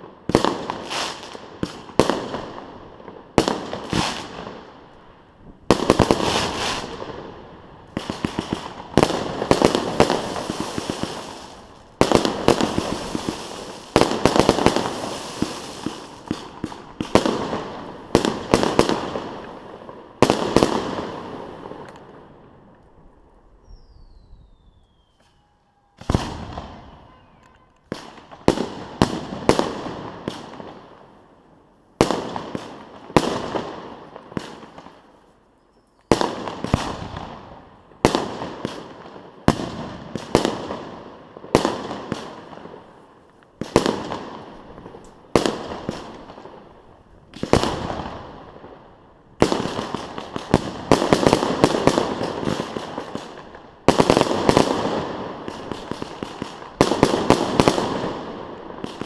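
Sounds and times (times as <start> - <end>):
firework crackle: 0.0 - 22.4, 26.0 - 31.0, 36.1 - 59.0.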